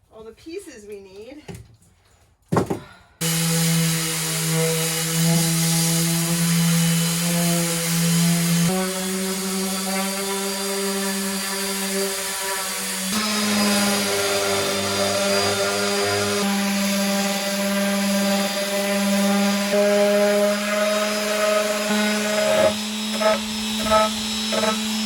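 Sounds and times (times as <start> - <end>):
power tool motor humming: 3.2 - 25.0.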